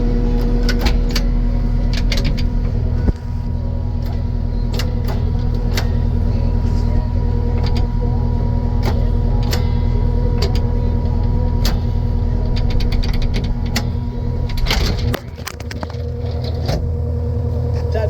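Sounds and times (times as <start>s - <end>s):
diesel engine running: 0.0s - 18.0s
steady hum: 0.0s - 18.0s.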